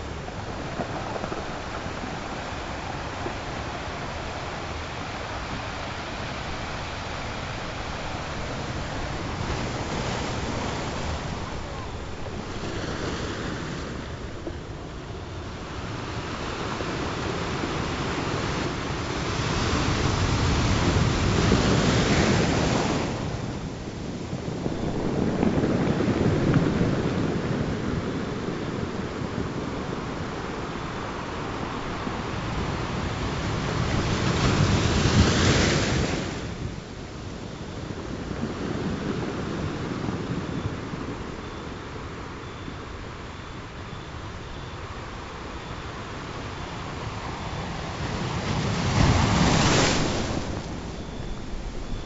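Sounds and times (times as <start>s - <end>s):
ocean waves breaking: 0.0s - 41.4s, 45.4s - 52.0s.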